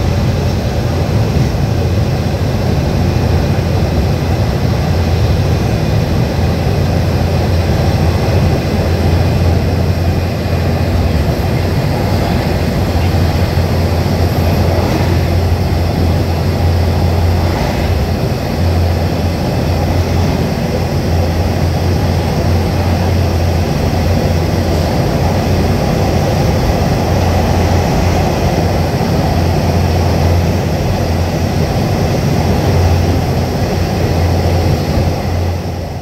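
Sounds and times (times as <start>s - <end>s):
diesel locomotive engines rumbling: 0.0s - 36.0s.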